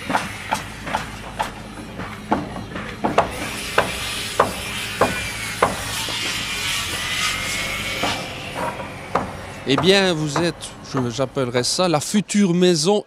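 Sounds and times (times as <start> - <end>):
hammer blows on wood: 0.0 - 11.4
rasping noise with whine: 0.0 - 12.2.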